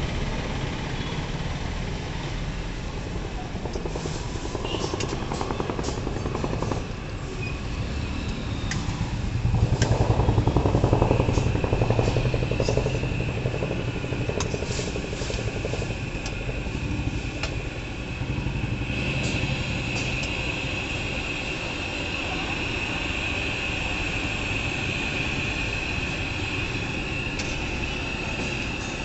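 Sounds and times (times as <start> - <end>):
low engine-like rumble: 0.0 - 29.0.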